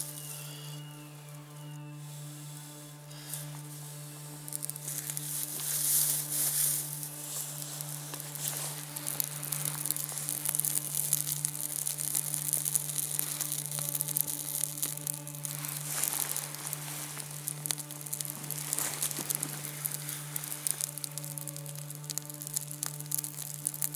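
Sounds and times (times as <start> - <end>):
dry grass burning crackling: 0.0 - 23.9.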